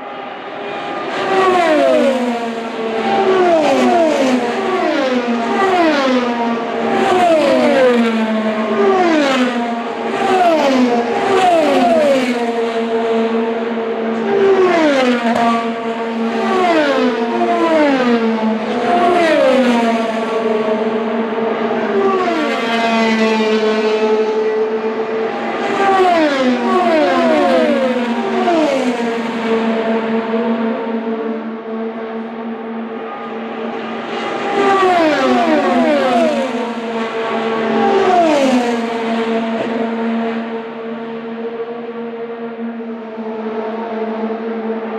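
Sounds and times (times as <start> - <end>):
race cars passing at speed: 0.0 - 44.9.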